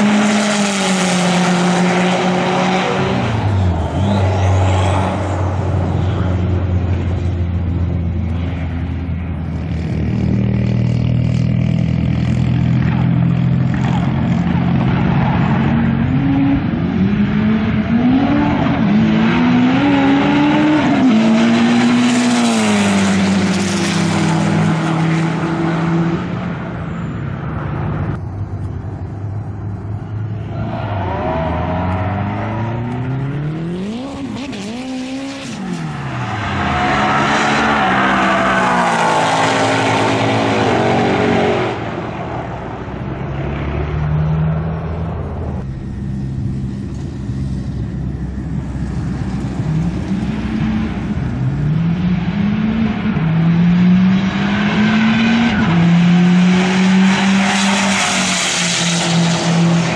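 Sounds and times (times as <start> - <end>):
drag car engines at full throttle: 0.0 - 59.9
engines passing by: 0.0 - 59.9.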